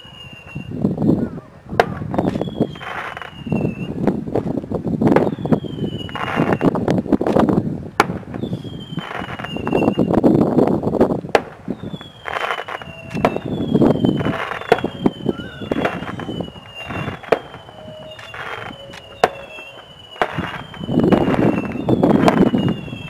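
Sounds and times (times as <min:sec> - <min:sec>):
firework crackling: 0:00.0 - 0:23.0
whistling fireworks: 0:00.0 - 0:23.0
firework bangs: 0:01.8 - 0:23.0.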